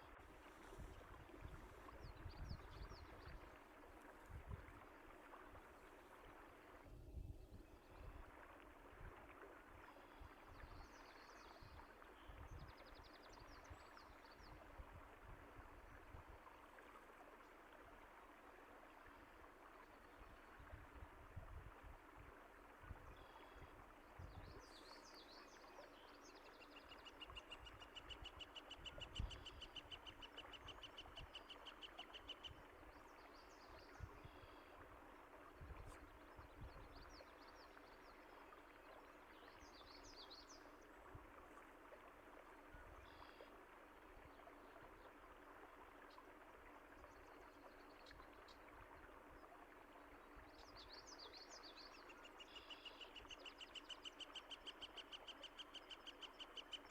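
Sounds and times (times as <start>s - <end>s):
faint running water: 0.0s - 56.9s.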